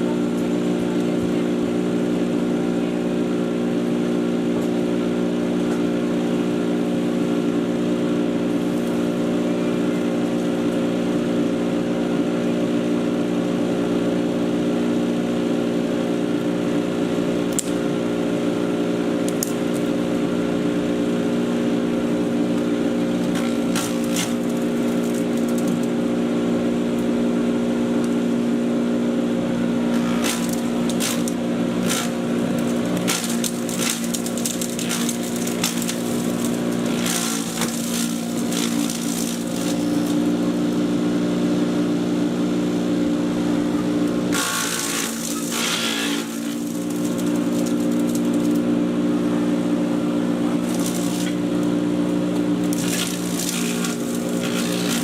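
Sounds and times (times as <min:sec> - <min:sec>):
chipper shredder humming: 0:00.0 - 0:55.0.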